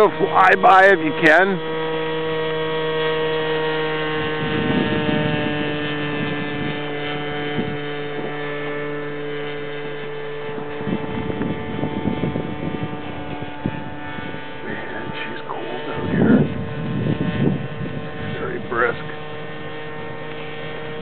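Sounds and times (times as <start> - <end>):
model airplane engine droning: 0.0 - 21.0.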